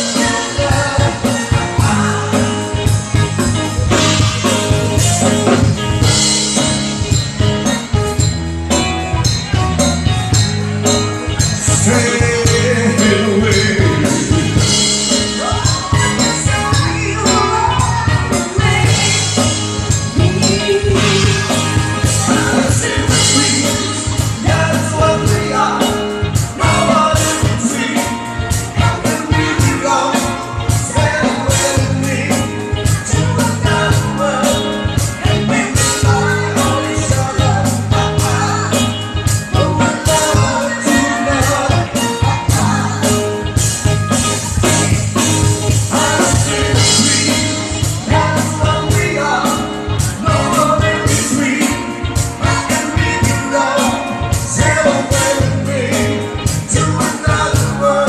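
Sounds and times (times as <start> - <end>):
bass guitar: 0.0 - 58.0
electric guitar: 0.0 - 58.0
live pop-rock band: 0.0 - 58.0
person singing: 0.0 - 58.0
steady drum beat: 0.0 - 58.0.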